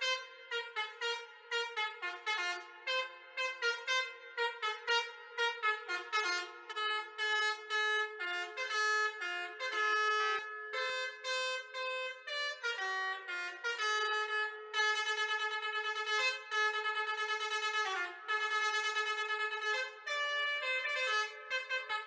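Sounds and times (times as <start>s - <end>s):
multi-tone bus horn tune: 0.0s - 22.0s.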